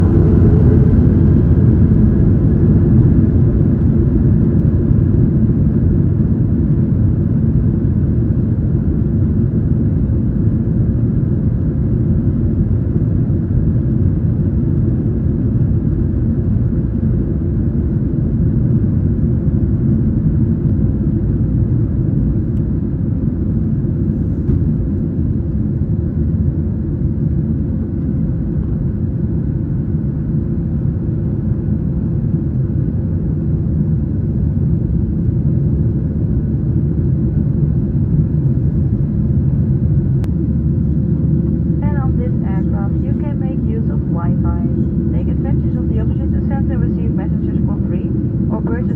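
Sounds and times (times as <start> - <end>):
jet engines low rumble: 0.0 - 48.9.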